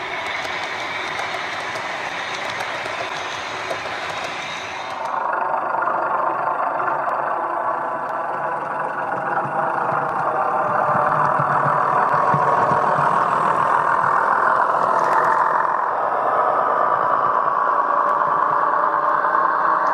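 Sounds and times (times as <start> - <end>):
diesel railcar engine through small speaker: 0.0 - 19.9.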